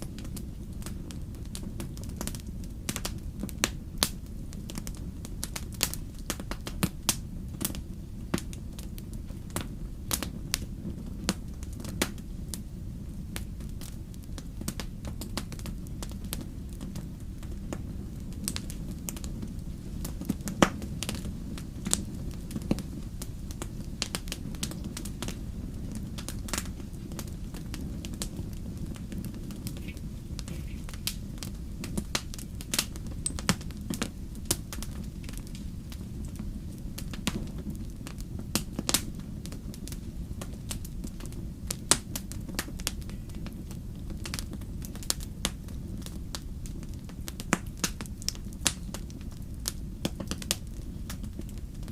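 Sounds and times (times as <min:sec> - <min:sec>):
logs popping and crackling: 0:00.0 - 0:51.9
wood fire rumbling: 0:00.0 - 0:51.9.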